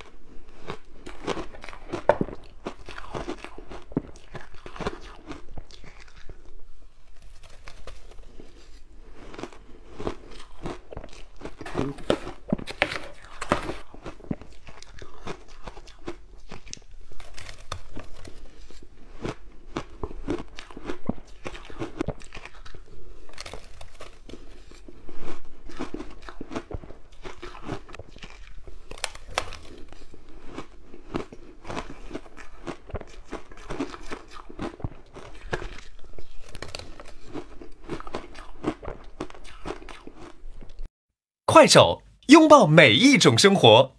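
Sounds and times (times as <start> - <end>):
person chewing shaved ice: 0.0 - 40.9.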